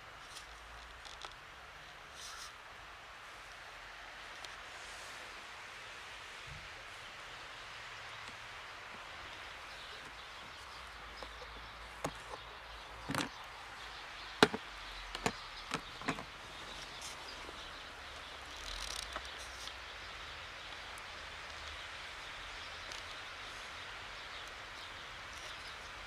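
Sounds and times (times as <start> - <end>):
faint outdoor hiss: 0.0 - 26.0.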